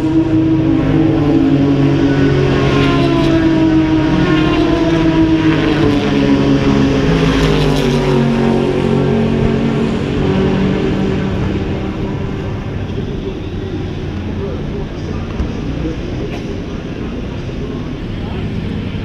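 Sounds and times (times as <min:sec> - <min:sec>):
race car engines running: 0:00.0 - 0:19.0.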